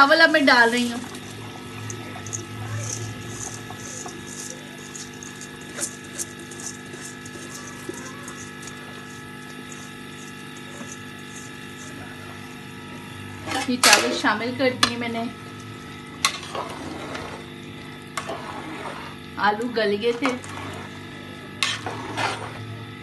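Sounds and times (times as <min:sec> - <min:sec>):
steady hum: 0:00.0 - 0:23.0
water boiling: 0:00.0 - 0:23.0.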